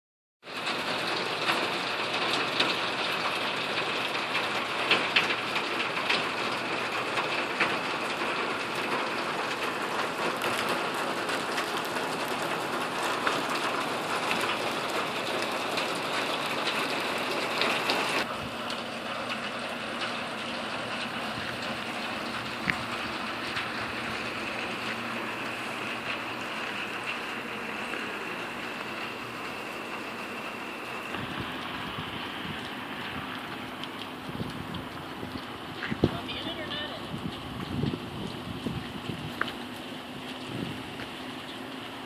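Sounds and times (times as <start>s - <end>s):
sharp raindrops: 0.4s - 42.0s
steady rain pattering: 0.4s - 42.0s.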